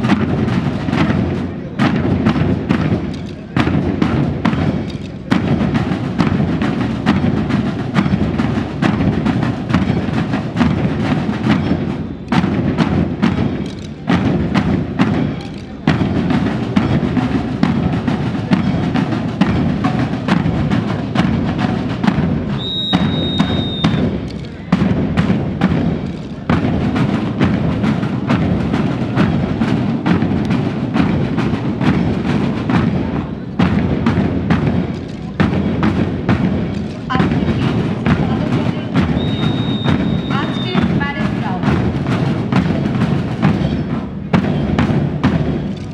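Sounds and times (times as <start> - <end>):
marching band music: 0.0 - 45.9
steady drum beat: 0.0 - 45.9.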